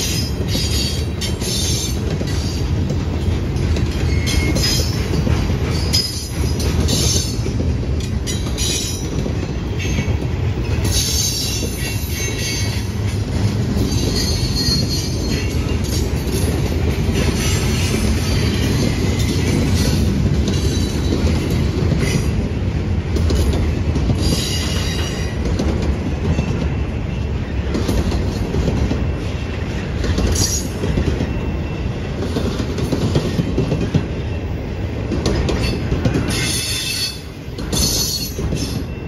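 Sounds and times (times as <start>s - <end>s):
clacking over rail joints: 0.0s - 34.3s, 34.9s - 39.0s
train wheels rumbling on rail: 0.0s - 39.0s.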